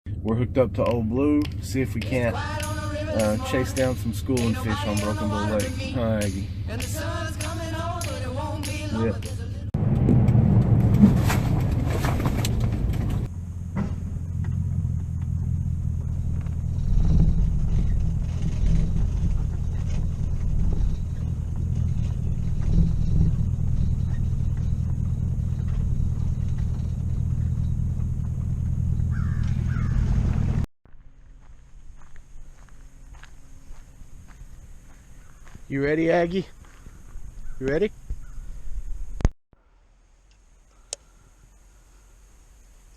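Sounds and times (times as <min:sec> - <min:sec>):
vehicle engine droning: 0:00.1 - 0:39.3.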